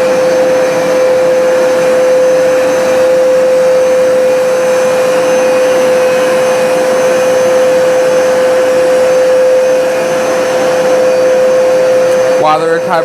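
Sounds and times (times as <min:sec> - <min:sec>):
carpet cleaner motor hum: 0:00.0 - 0:13.0.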